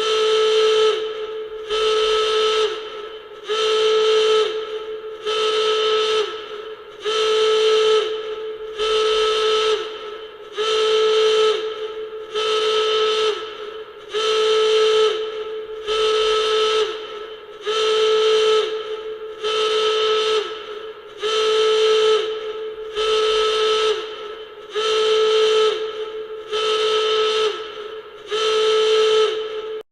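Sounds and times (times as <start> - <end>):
alarm horn blasts: 0.0 - 29.8.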